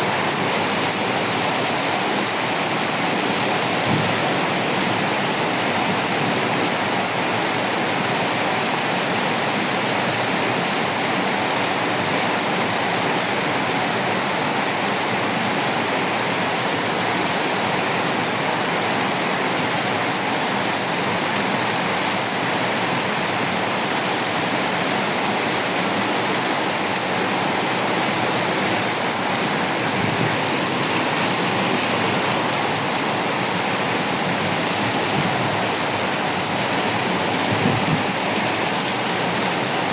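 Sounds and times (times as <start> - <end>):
torrential rain pouring: 0.0 - 39.9.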